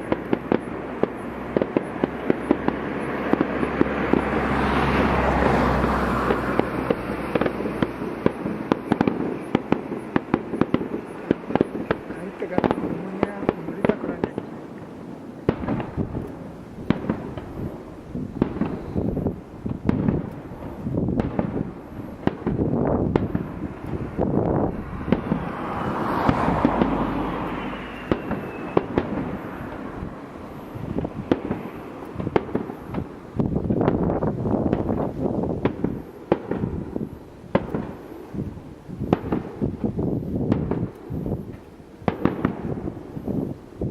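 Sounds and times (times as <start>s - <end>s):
fireworks crackling pops: 0.0s - 43.9s
fireworks rushing burst: 0.0s - 43.9s.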